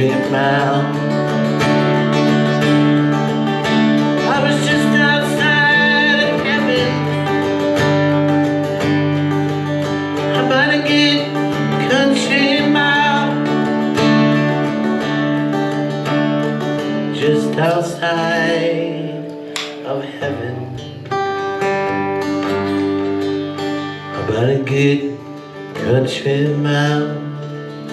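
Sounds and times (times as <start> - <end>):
acoustic guitar chords: 0.0 - 27.9
guitar lead melody: 0.0 - 27.9.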